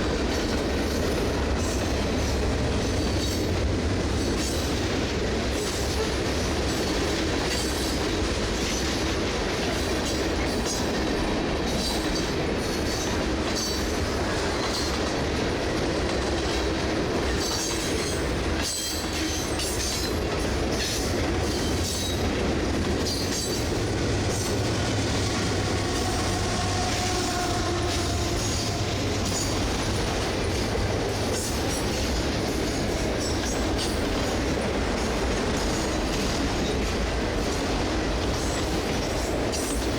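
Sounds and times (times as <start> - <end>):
diesel locomotive engine: 0.0 - 39.9
train wheels rumbling: 0.0 - 39.9
wheels clacking over rail joints: 0.0 - 39.9.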